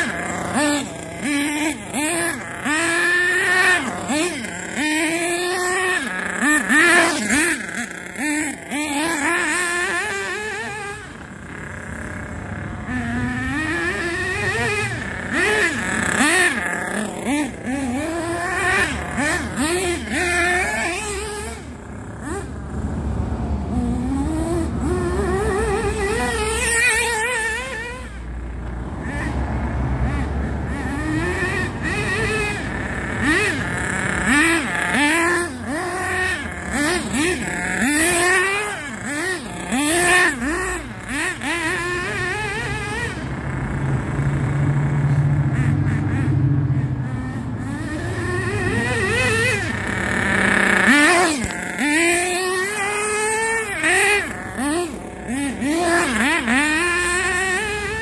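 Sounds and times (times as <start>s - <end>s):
rc car engine revving: 0.0s - 58.0s.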